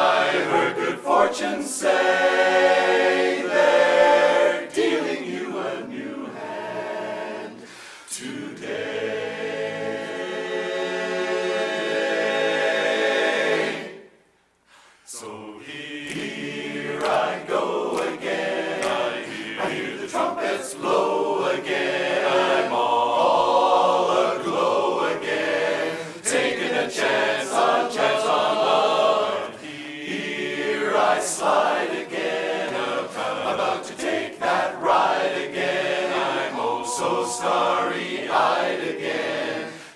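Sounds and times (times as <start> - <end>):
men's chorus singing a cappella: 0.0 - 14.1, 15.1 - 39.9.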